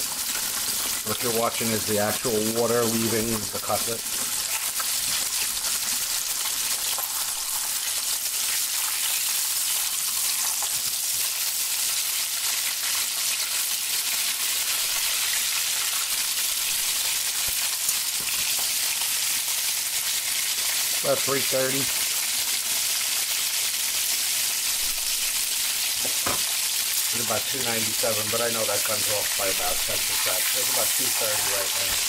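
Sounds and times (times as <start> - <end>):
cutlet sizzling in hot oil: 0.0 - 32.0.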